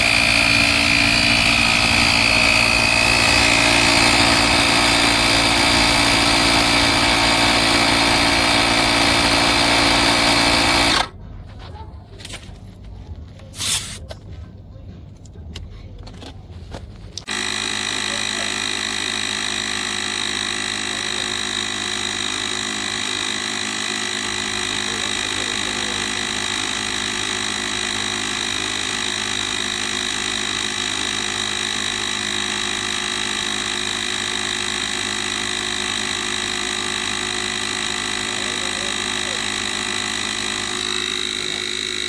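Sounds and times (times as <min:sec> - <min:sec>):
air compressor droning: 0:00.0 - 0:11.2, 0:13.5 - 0:14.0, 0:17.2 - 0:42.0.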